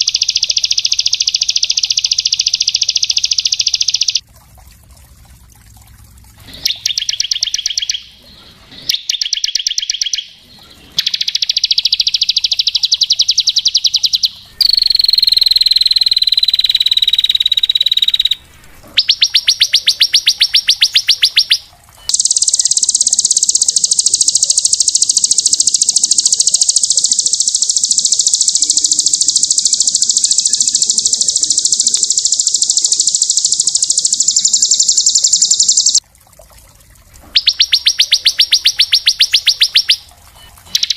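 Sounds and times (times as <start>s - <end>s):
songbird singing rapid trills: 0.0s - 4.2s, 6.6s - 18.4s, 19.0s - 36.0s, 37.3s - 40.9s.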